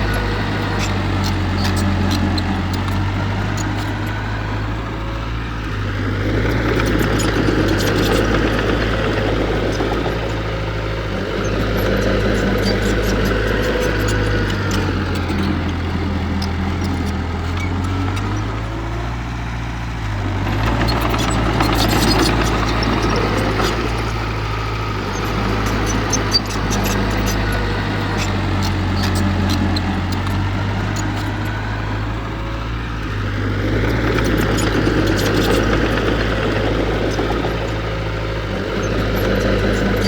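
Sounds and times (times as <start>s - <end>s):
diesel machinery engine running: 0.0s - 40.0s.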